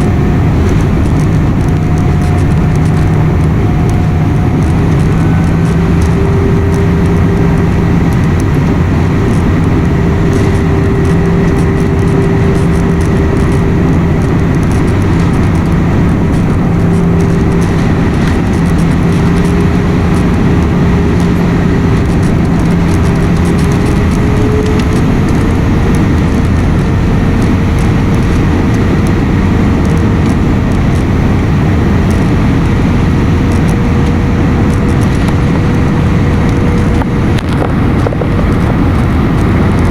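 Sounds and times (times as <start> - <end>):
jet engine cabin rush: 0.0 - 39.9.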